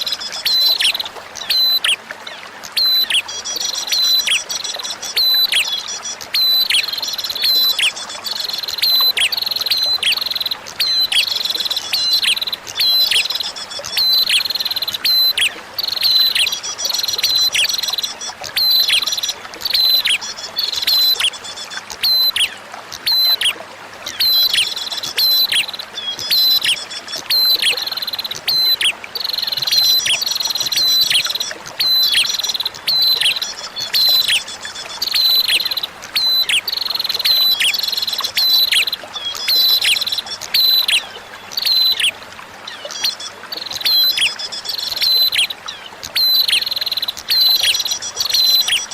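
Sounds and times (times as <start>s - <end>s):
bird chirping song: 0.0s - 23.5s, 24.1s - 48.9s
faint trickle of water: 0.0s - 48.9s.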